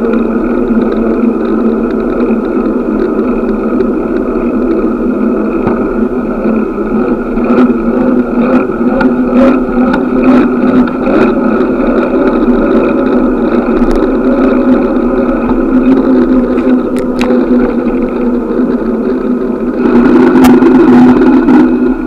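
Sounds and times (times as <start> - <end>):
bicycle clicks and rattles: 0.0 - 22.0
wind and road noise: 0.0 - 22.0.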